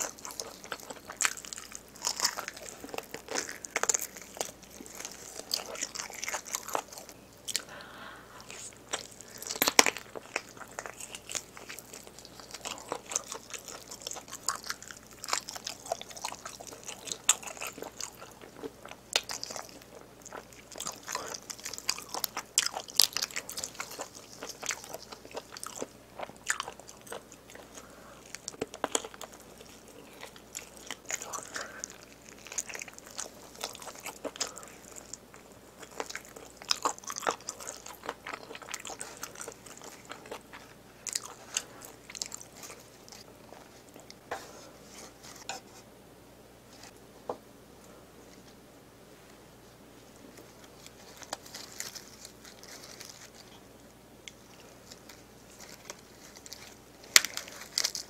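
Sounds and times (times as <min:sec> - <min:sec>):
biting and chewing: 0:00.0 - 0:07.7, 0:08.5 - 0:44.2, 0:50.3 - 0:58.0.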